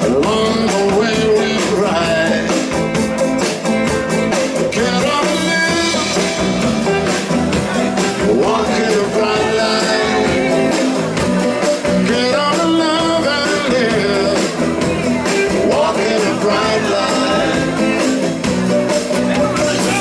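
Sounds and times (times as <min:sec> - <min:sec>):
live rock and roll band: 0:00.0 - 0:20.0
steady drum beat: 0:00.0 - 0:20.0.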